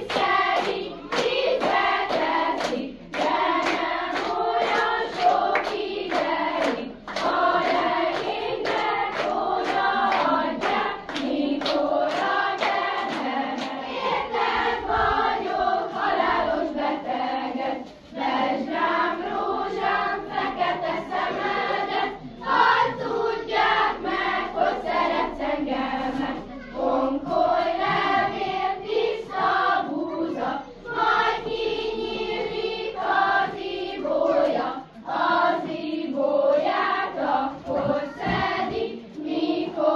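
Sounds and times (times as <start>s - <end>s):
group of voices singing: 0.0s - 39.9s.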